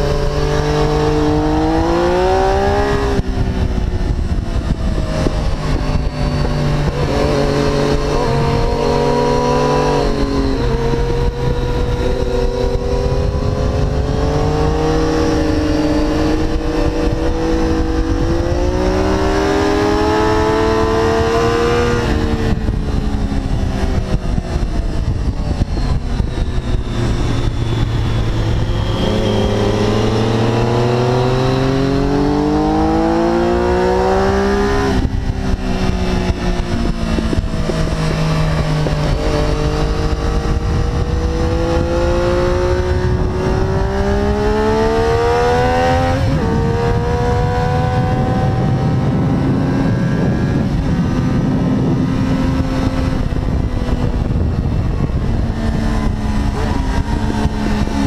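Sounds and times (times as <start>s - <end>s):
motorcycle engine at full throttle: 0.0s - 58.0s.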